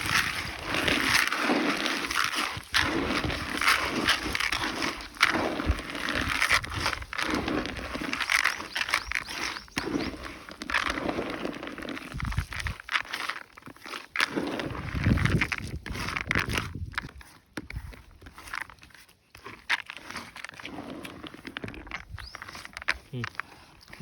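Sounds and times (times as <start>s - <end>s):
dogs chewing and crunching: 0.0s - 24.0s.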